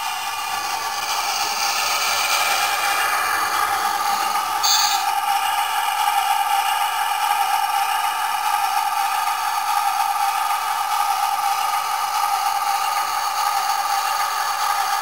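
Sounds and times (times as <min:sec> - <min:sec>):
diesel engine through small speaker: 0:00.0 - 0:15.0.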